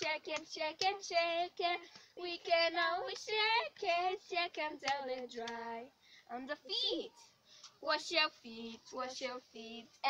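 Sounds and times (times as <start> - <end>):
girls singing a children's song: 0.0 - 10.0.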